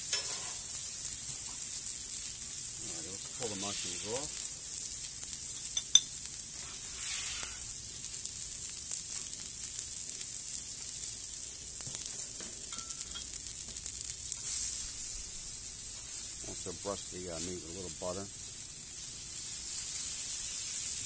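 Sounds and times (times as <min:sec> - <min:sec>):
steak sizzling on a griddle: 0:00.0 - 0:21.0.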